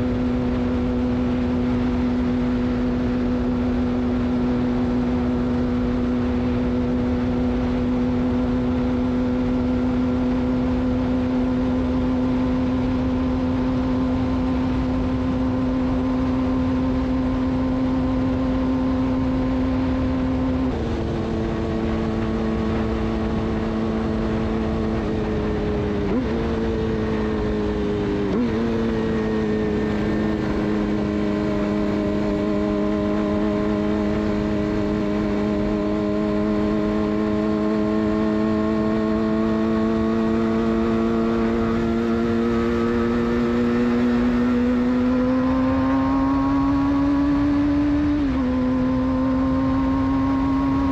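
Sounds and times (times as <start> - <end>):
motorcycle engine at high revs: 0.0 - 50.9
rushing wind: 0.0 - 50.9.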